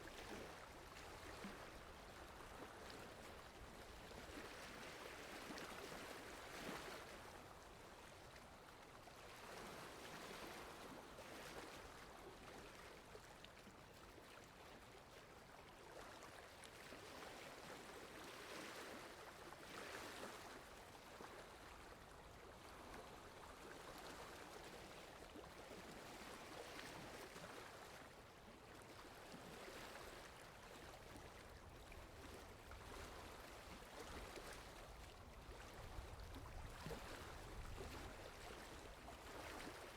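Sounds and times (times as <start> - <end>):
faint water lapping: 0.0 - 39.9.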